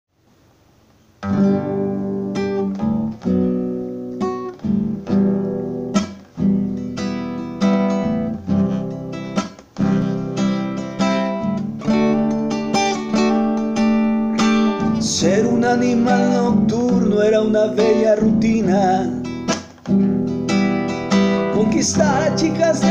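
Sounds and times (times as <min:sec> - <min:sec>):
classical guitar strumming chords: 0:01.2 - 0:22.9.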